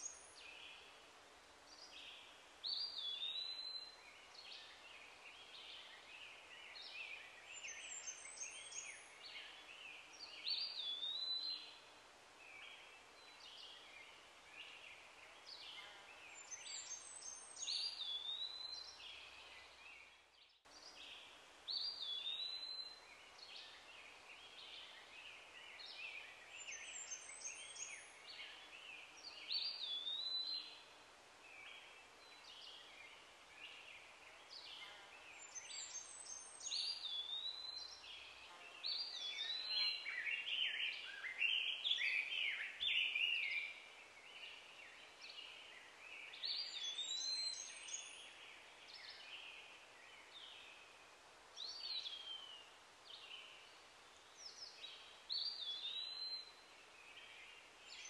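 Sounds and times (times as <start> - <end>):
birds singing whistled notes: 0.0 - 1.0, 1.7 - 58.0
faint outdoor background: 0.0 - 58.0.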